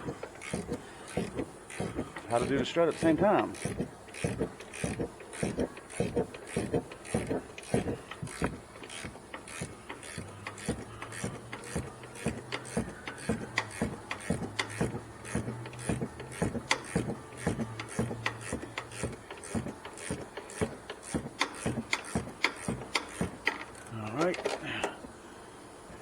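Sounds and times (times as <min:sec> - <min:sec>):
ratchet wrench clicking: 0:00.0 - 0:25.0.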